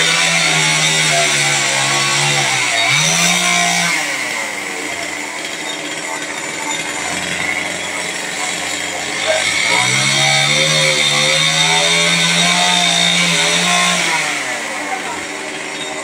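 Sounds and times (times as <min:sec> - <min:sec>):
chainsaw running: 0:00.0 - 0:16.0.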